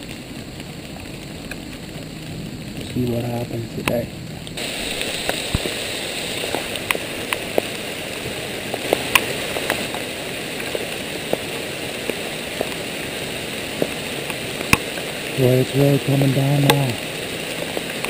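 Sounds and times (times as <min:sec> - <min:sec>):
heavy rain hissing: 0:00.0 - 0:18.0
sharp ticks of raindrops: 0:00.0 - 0:18.0.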